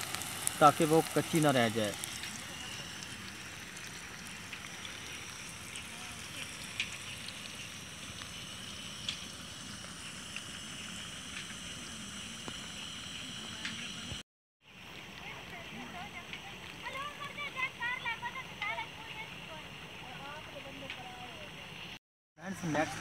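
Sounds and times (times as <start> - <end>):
oil crackles and pops: 0.0 - 19.2, 20.5 - 21.2
batter deep-frying sizzle: 0.0 - 23.0.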